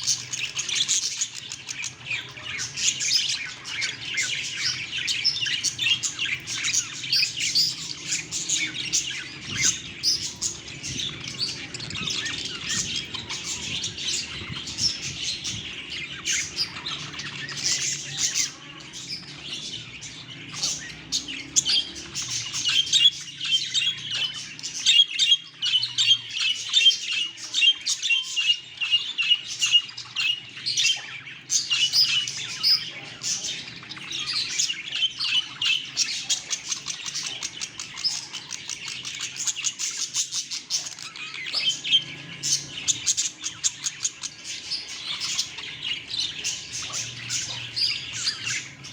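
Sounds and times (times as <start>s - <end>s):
budgerigars chirping: 0.0s - 48.9s.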